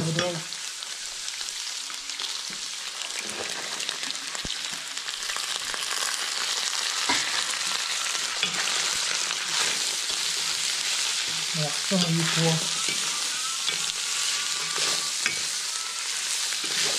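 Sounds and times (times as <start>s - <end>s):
meat sizzling in a wok: 0.0s - 16.9s.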